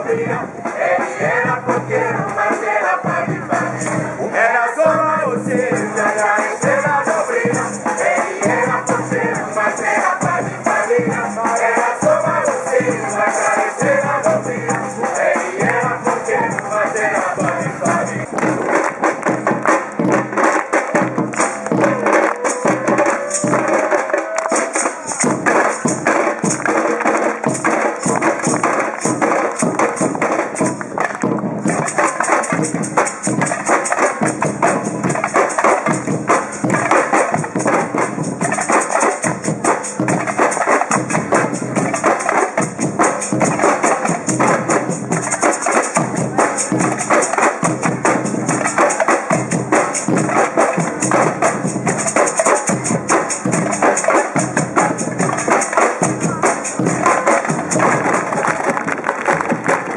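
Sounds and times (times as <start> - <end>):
samba drum ensemble: 0.0 - 59.9.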